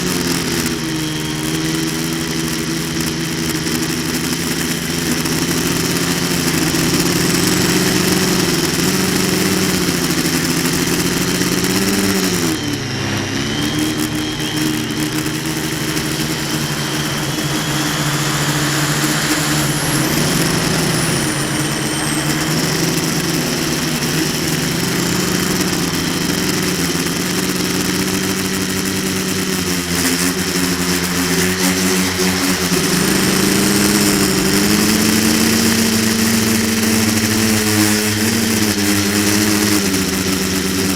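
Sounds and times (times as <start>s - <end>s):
drone motors and propellers humming: 0.0s - 40.9s.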